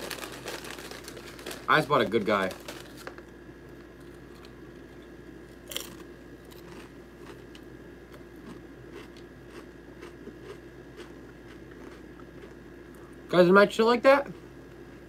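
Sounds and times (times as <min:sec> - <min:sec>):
chips crunching while chewed: 0:00.0 - 0:12.6.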